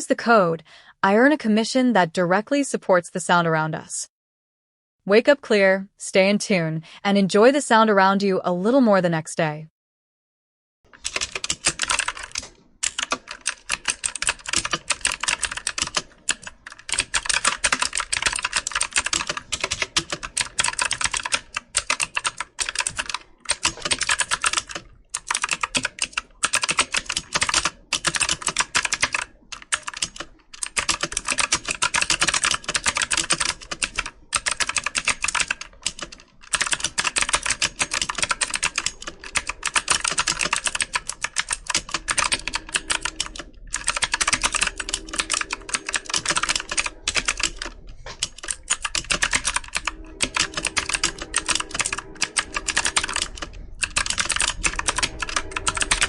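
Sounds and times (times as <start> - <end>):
computer keyboard typing: 10.9 - 56.0.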